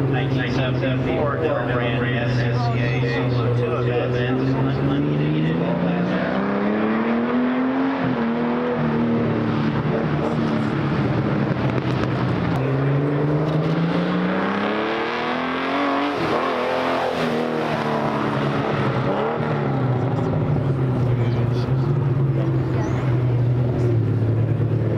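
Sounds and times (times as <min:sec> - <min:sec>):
race car engine: 0:00.0 - 0:24.9.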